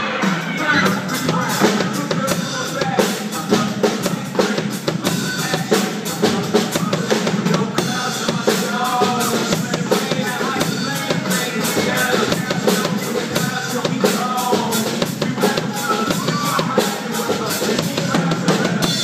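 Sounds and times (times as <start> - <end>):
drum kit playing: 0.0 - 19.0.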